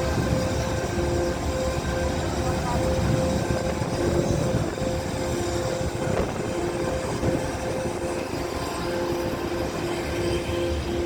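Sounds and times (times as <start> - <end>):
ship engines rumbling: 0.0 - 11.0.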